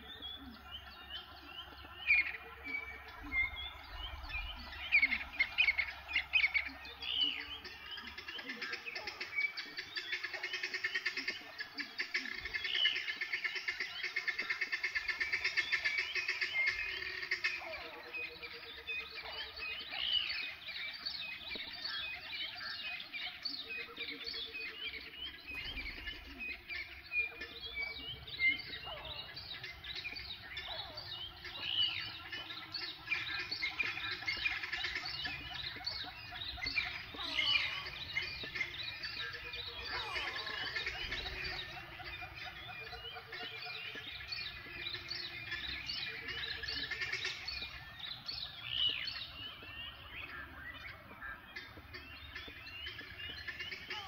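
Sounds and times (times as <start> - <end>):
birds chirping in chorus: 0.0 - 54.0.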